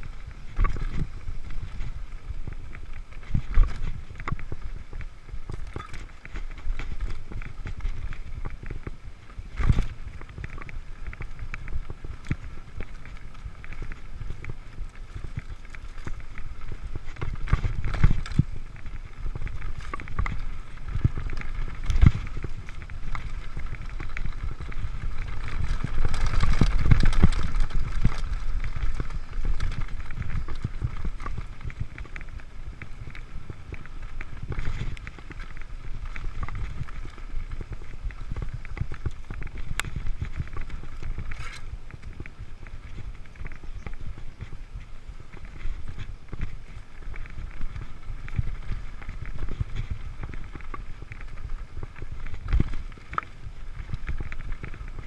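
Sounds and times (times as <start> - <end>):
bike knocks and rattles: 0.0 - 44.6
bike tyres rumbling on dirt trail: 0.0 - 55.0.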